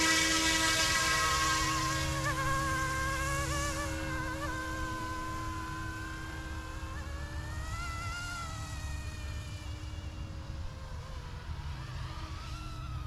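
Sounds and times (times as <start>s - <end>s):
rc helicopter buzzing whine: 0.0s - 13.0s.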